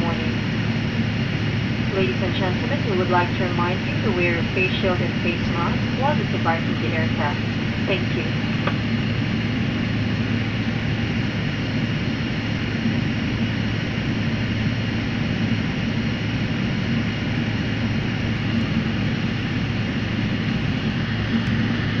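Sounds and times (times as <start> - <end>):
jet engines humming: 0.0 - 22.0.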